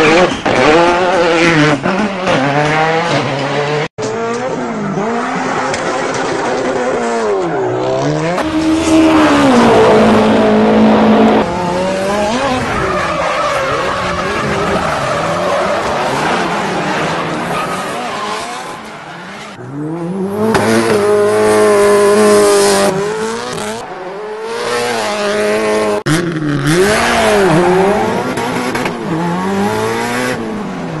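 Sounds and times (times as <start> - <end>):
racing car engine revving: 0.0 - 30.9.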